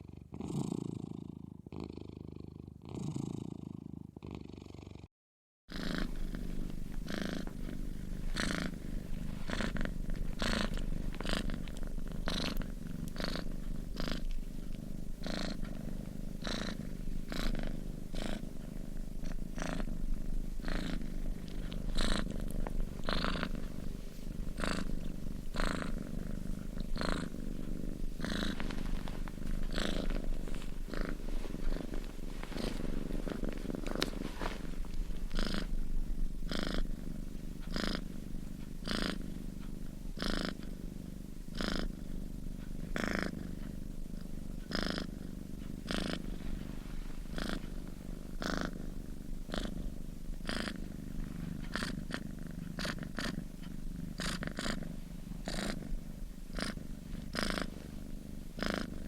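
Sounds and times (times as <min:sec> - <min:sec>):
cat snoring: 0:00.0 - 0:05.1, 0:05.7 - 0:59.0.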